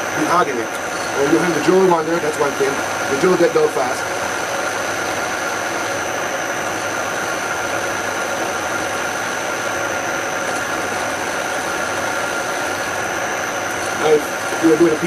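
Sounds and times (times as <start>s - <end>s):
faint steady machine whine: 0.0s - 15.0s.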